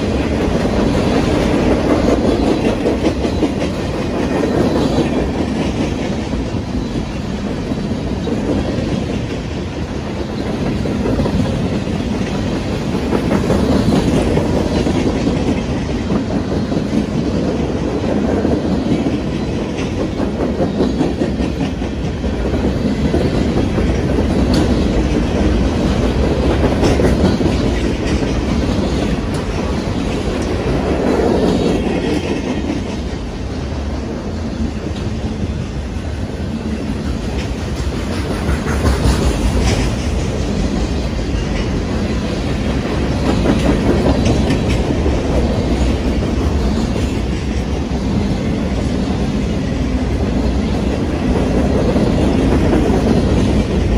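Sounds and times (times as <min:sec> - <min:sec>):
wheels clicking over rail joints: 0:00.0 - 0:33.3, 0:36.7 - 0:53.9
train cars rolling past: 0:00.0 - 0:53.9.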